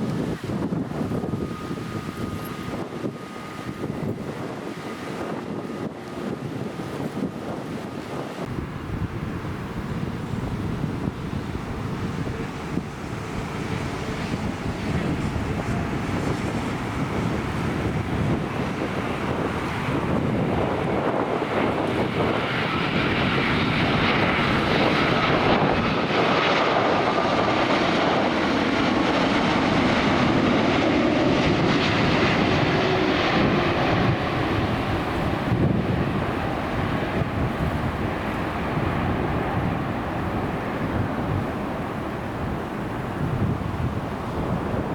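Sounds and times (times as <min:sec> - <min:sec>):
jet engines rumbling: 0:00.0 - 0:44.9
wind buffeting microphone: 0:00.0 - 0:44.9.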